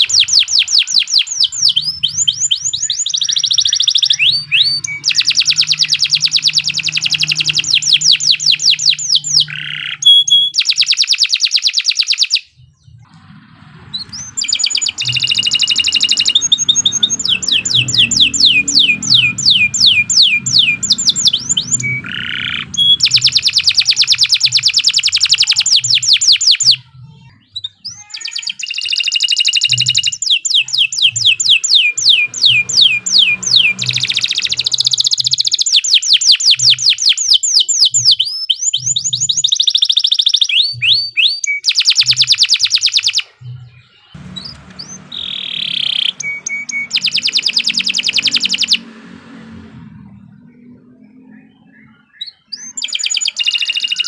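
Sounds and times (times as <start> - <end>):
canary singing rapid trills: 0.0 - 49.4, 51.4 - 54.0.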